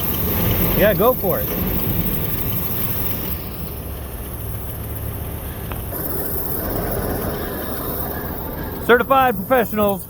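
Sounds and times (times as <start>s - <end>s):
motorhome engine rumbling: 0.0s - 10.0s.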